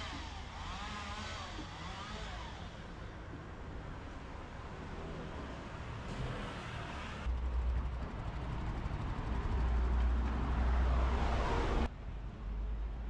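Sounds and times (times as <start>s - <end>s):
traffic rumble: 1.7s - 13.0s.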